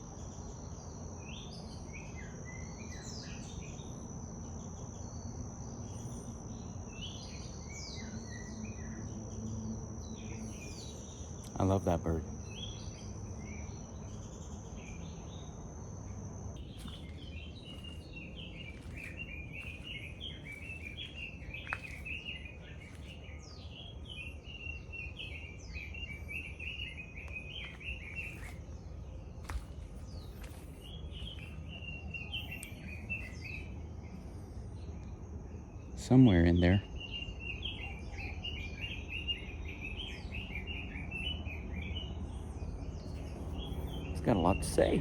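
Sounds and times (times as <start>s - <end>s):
songbird chattering song: 0.0s - 45.0s.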